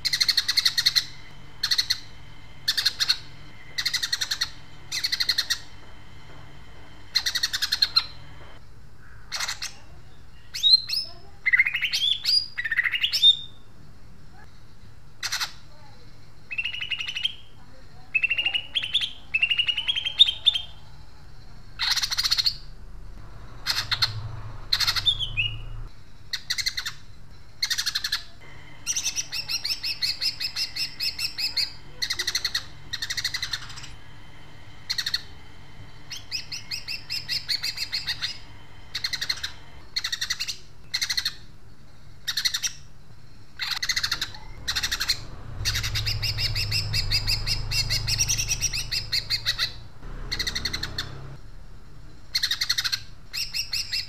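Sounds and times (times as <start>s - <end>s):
bird chattering trills: 0.0s - 6.4s, 7.0s - 13.6s, 16.5s - 20.8s, 21.8s - 22.7s, 23.4s - 41.5s, 43.6s - 51.6s.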